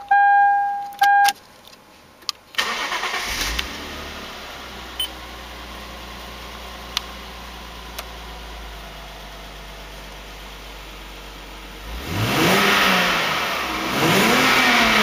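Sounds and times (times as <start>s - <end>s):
car engine starting and idling: 2.4s - 15.0s.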